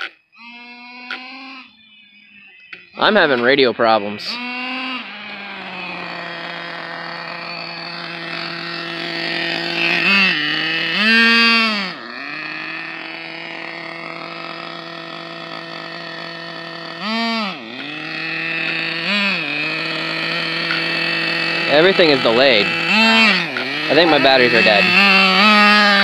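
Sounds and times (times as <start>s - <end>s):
small nitro engine idling and revving: 0.0s - 26.0s.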